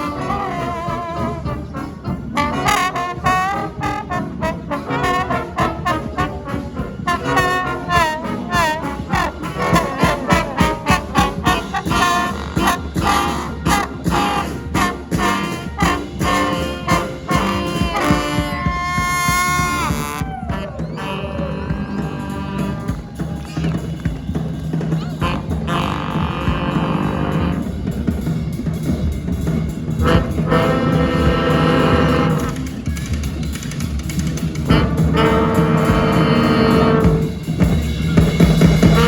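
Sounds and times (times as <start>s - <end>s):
brass band playing: 0.0s - 39.0s
driving drum beat: 0.0s - 39.0s.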